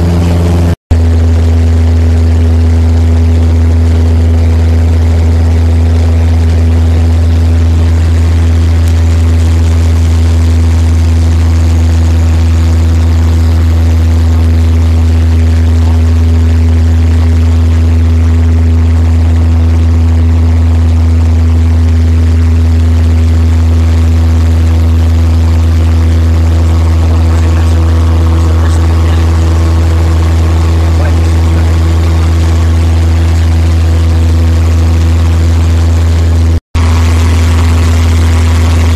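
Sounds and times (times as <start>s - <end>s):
plane engine and propeller drone: 0.0s - 38.9s.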